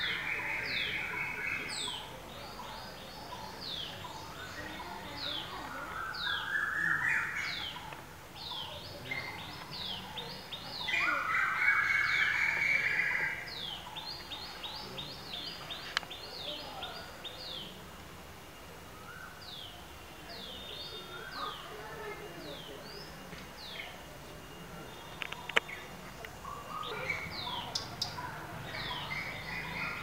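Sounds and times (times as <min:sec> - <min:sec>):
birds calling: 0:00.0 - 0:17.8, 0:18.9 - 0:30.0.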